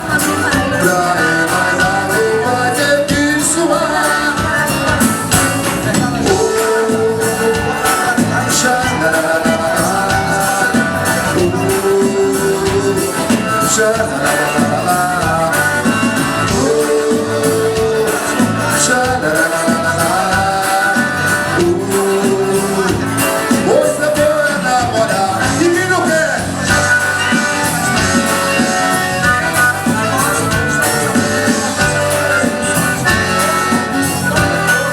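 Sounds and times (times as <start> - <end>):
accordion: 0.0 - 34.9
man singing: 0.0 - 34.9
percussion: 0.0 - 34.9.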